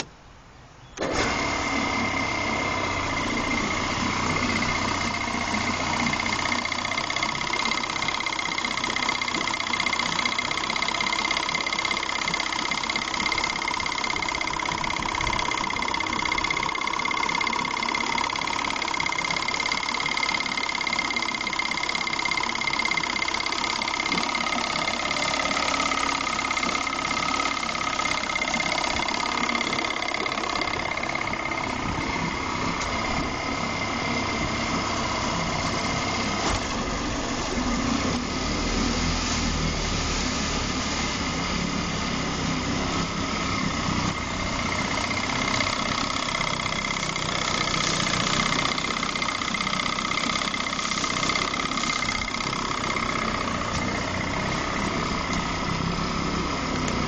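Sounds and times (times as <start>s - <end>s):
high steady whine: 0.0s - 57.0s
outboard motor running: 1.0s - 57.0s.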